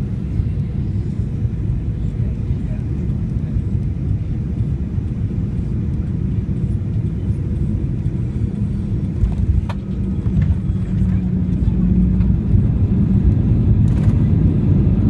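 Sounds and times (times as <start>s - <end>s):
airliner low rumble: 0.0s - 15.0s.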